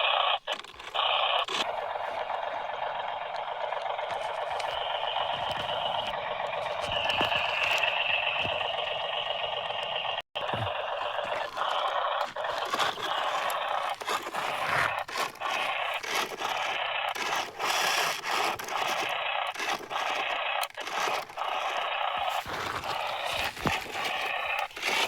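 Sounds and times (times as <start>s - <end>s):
toy vehicles scraping and rattling: 0.0s - 25.0s.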